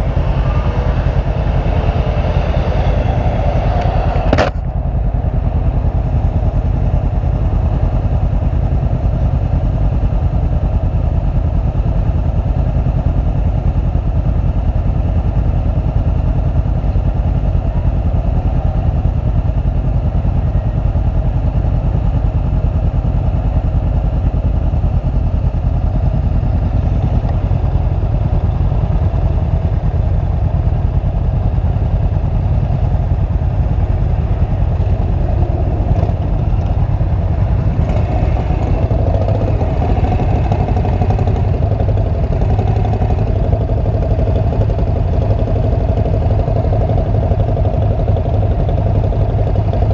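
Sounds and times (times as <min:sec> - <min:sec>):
motorcycle engine rumbling: 0:00.0 - 0:49.9.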